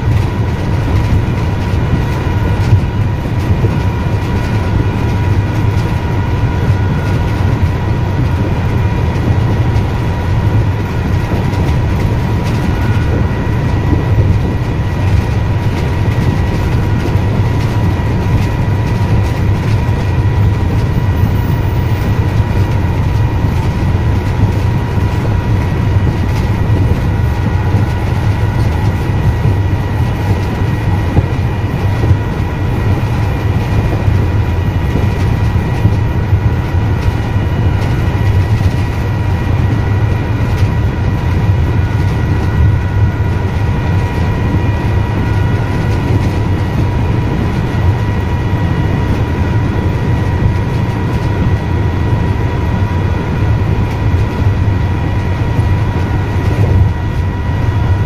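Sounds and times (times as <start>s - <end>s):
constant high hum: 0.0s - 58.0s
train wheels rumbling on rail: 0.0s - 58.0s.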